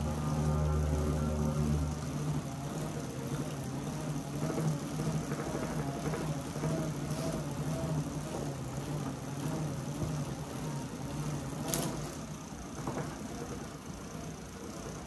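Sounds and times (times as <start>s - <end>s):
bike tyres spinning on rollers: 0.0s - 15.0s.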